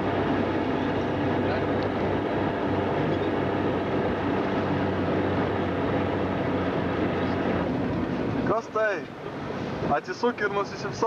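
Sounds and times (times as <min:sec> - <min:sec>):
car engine running: 0:00.0 - 0:10.0
road and body noise: 0:00.0 - 0:11.0.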